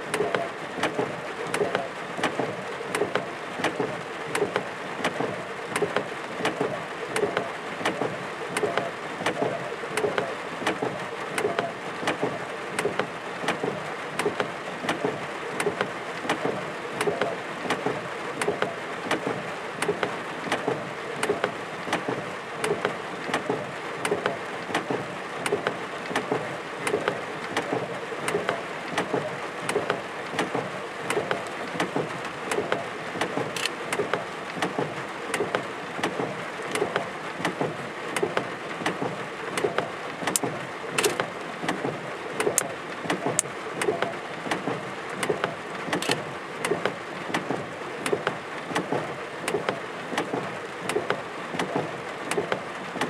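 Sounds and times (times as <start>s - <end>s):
rain hissing with sharp drop ticks: 0.1s - 53.0s.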